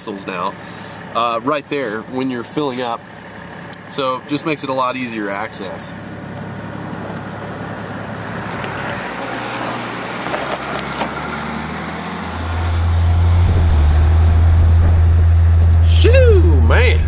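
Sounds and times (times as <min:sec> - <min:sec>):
diesel engine exhaust drone: 0:00.0 - 0:17.0.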